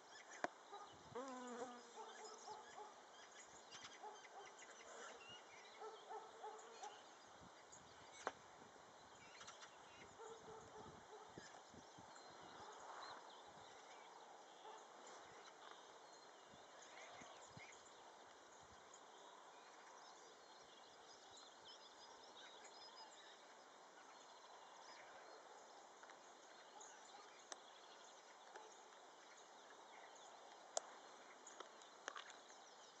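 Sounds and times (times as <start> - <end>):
faint outdoor ambience: 0.0 - 33.0.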